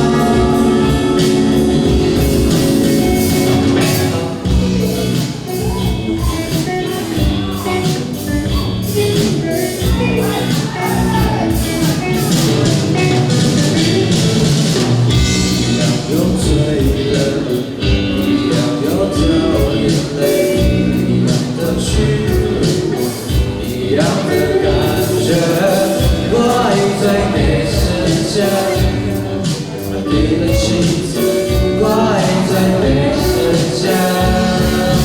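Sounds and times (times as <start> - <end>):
person singing: 0.0 - 14.8, 15.4 - 35.0
drum beat: 0.0 - 35.0
rock band playing live: 0.0 - 35.0.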